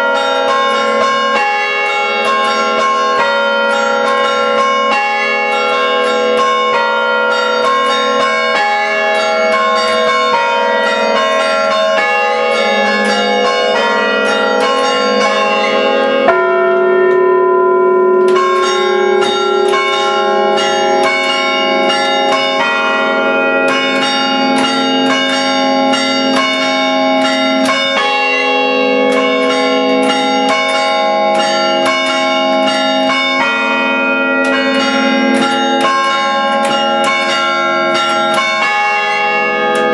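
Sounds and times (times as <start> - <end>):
church bells ringing: 0.0 - 39.9
lower bell ringing: 0.0 - 39.9.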